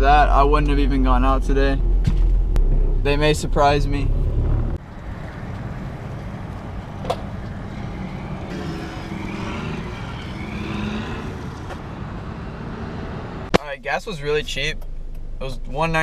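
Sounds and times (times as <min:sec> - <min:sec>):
car engine rumbling: 0:00.0 - 0:16.0
road noise: 0:00.0 - 0:16.0.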